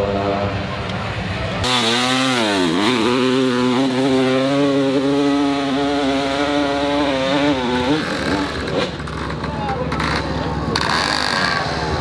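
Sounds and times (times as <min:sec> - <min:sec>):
dirt bike engine at high revs: 0:01.5 - 0:12.0.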